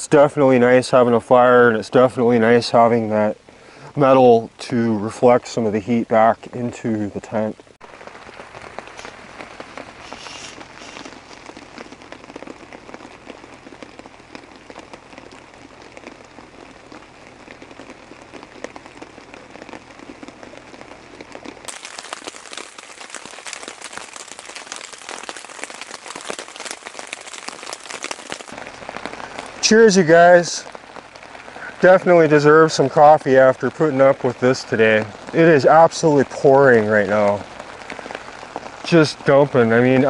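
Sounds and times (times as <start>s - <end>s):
pouring rain: 0.0s - 40.0s
raindrops ticking on a tarp: 0.0s - 40.0s.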